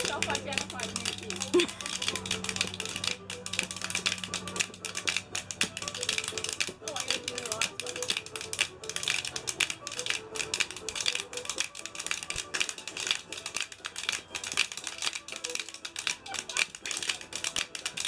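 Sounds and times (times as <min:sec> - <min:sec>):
spoons clacking rhythmically: 0:00.0 - 0:18.0.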